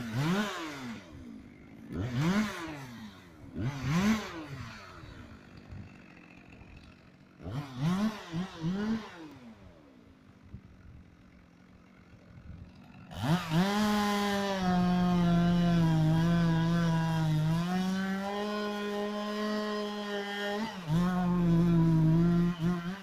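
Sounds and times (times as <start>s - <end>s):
chainsaw engine revving: 0.0s - 23.0s.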